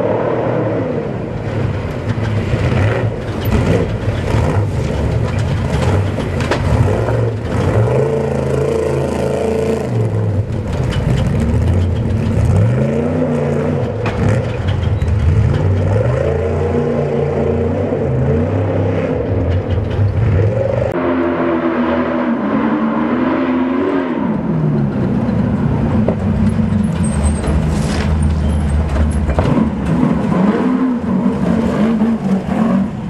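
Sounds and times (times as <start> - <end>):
truck engine revving: 0.0 - 33.0.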